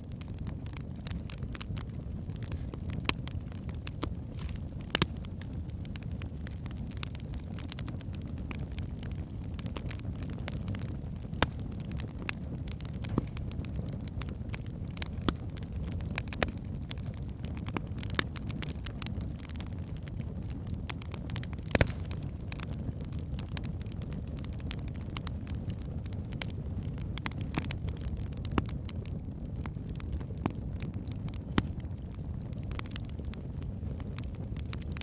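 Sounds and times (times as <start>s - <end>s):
logs crackling and popping: 0.0s - 35.0s
low rumble of flames: 0.0s - 35.0s.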